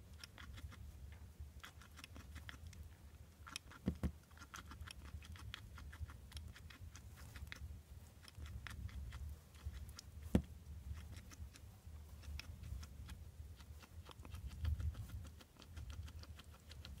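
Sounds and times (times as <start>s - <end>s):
guinea pig licking and chewing: 0.0s - 17.0s.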